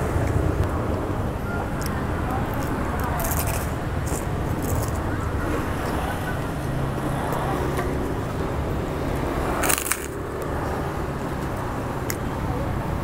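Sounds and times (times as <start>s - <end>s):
street traffic engine hum: 0.0s - 13.0s.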